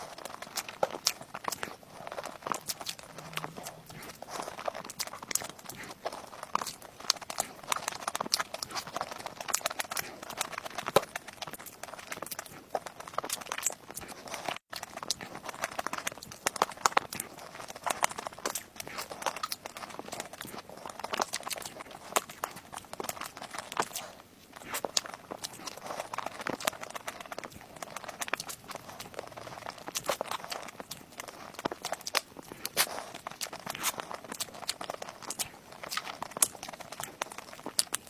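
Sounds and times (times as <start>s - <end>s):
person chewing and lip-smacking: 0.0s - 38.0s.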